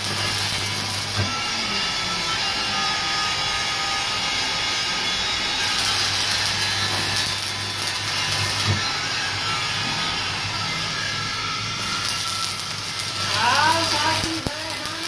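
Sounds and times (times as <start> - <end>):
steady machine noise: 0.0 - 15.0
welder low hum: 0.0 - 15.0
welding arc crackling hiss: 0.0 - 15.0.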